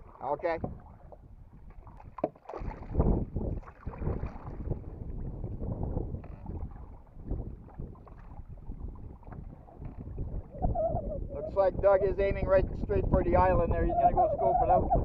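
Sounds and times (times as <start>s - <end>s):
water sloshing around a canoe: 0.0s - 13.2s
wind buffeting microphone: 0.0s - 15.0s.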